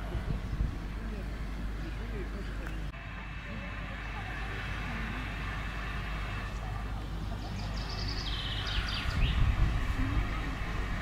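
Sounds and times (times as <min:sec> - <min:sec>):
faint distant voices: 0:00.0 - 0:11.0
steady low rumble: 0:00.0 - 0:11.0.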